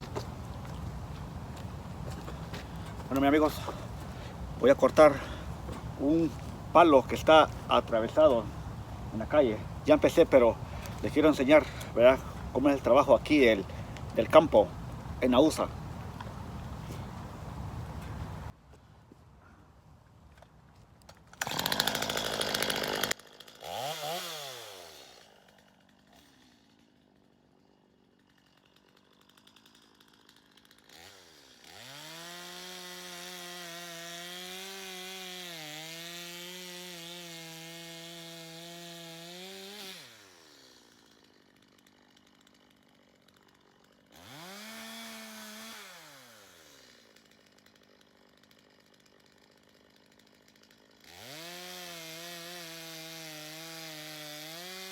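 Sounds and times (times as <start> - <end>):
chainsaw cutting a log: 0.0 - 17.1, 21.4 - 54.9.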